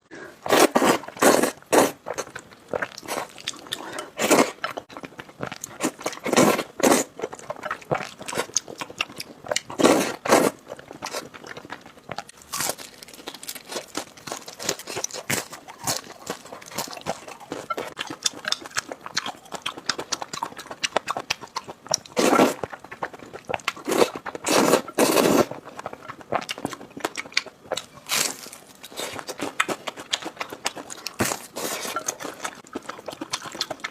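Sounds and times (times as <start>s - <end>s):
person chewing noodles: 0.2s - 33.9s.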